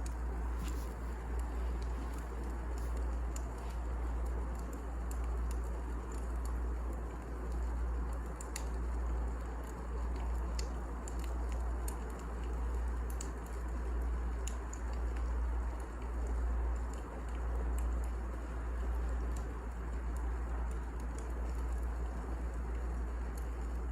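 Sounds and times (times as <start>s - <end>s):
fire low rumble: 0.0s - 23.9s
wood fire crackling and popping: 0.0s - 23.9s.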